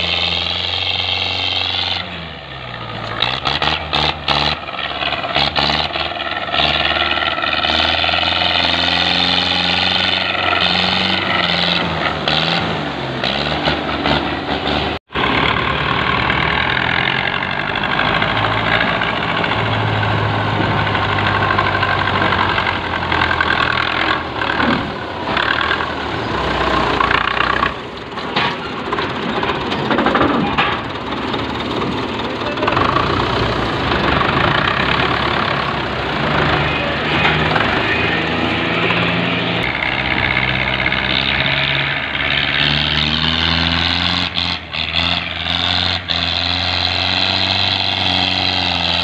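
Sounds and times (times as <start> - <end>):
tractor diesel engine under load: 0.0 - 49.0.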